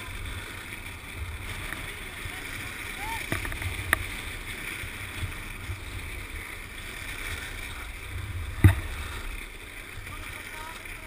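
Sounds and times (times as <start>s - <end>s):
wheels rolling on asphalt: 0.0s - 11.0s.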